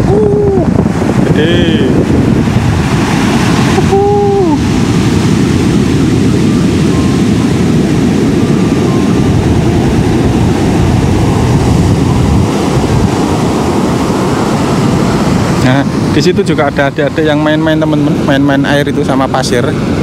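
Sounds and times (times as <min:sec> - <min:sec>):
ocean waves breaking on beach: 0:00.0 - 0:20.0
wind buffeting microphone: 0:00.0 - 0:20.0.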